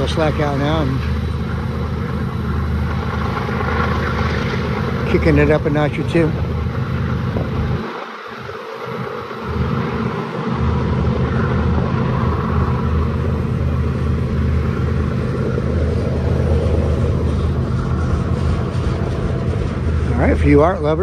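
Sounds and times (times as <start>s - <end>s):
diesel locomotive engine rumble: 0.0s - 21.0s
steel wheels rushing on rail: 0.0s - 21.0s.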